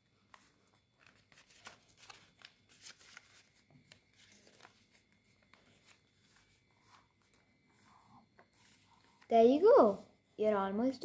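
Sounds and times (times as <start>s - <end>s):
paper rustling and crackling: 0.2s - 9.3s.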